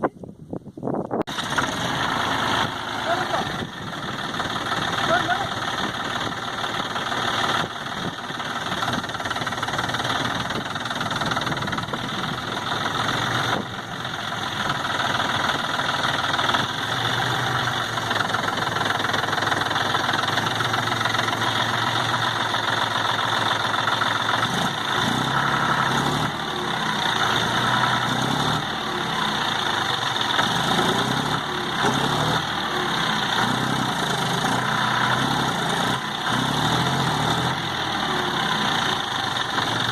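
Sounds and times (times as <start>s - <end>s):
tractor diesel engine running: 1.0s - 39.9s.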